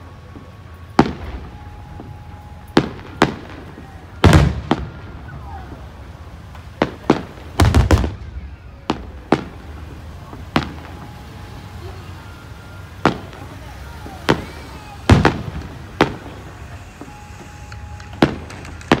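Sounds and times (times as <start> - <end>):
firework shells bursting: 0.4 - 11.4, 13.0 - 19.0.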